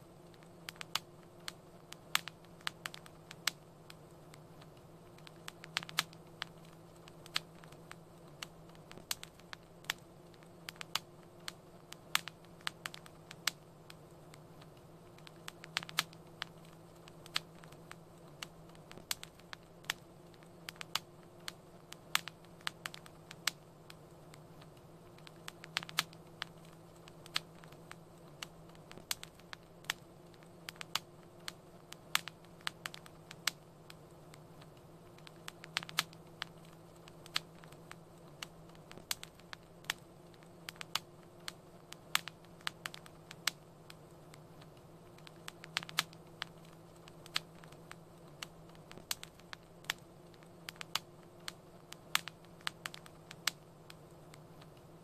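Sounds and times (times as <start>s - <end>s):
fire crackling in a fireplace: 0.0s - 55.0s
low steady hum: 0.0s - 55.0s.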